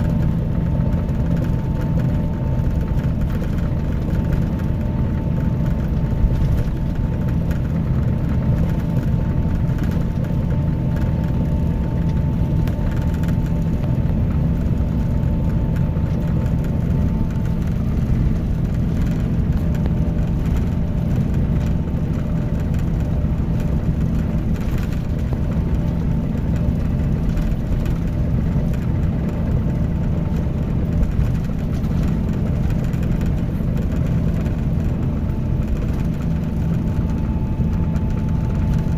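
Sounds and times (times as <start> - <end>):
coach engine droning: 0.0 - 38.9.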